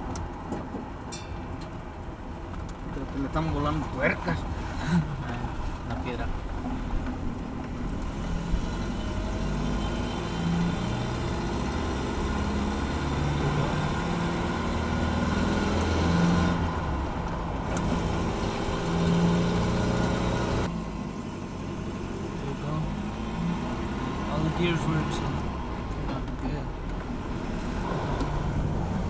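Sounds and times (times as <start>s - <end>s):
road noise: 0.0s - 29.0s
truck engine: 0.0s - 29.0s.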